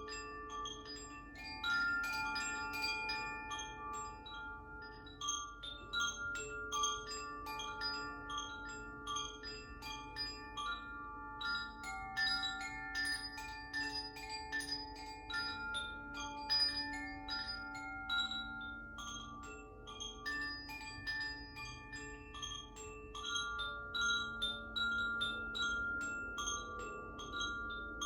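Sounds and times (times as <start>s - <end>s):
metallic chimes ringing: 0.0s - 28.0s.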